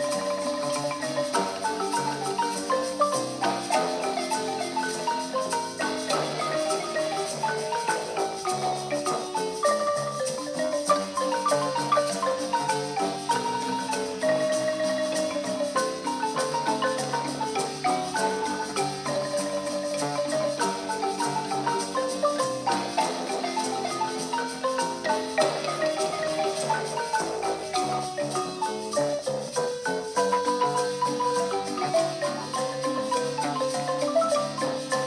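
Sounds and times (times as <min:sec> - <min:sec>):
marimba melody: 0:00.0 - 0:35.0.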